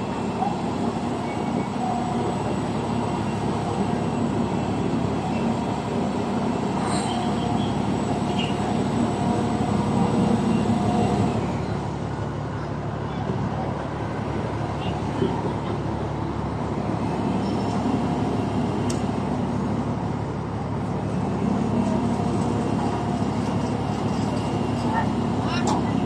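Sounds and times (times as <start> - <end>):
heavy diesel machinery rumbling: 0.0 - 26.0.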